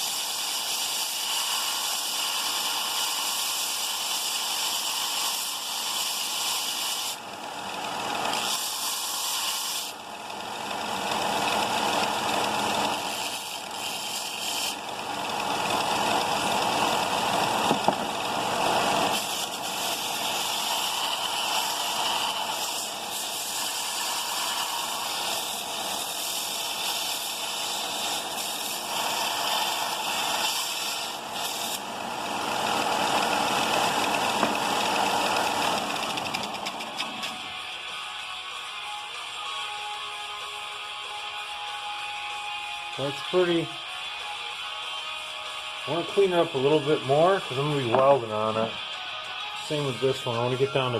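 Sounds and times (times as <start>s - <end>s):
sander grinding steel: 0.0s - 50.9s.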